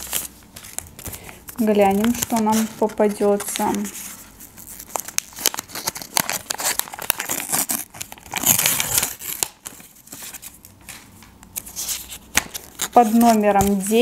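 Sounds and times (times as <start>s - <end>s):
paper tearing and rustling: 0.0s - 14.0s.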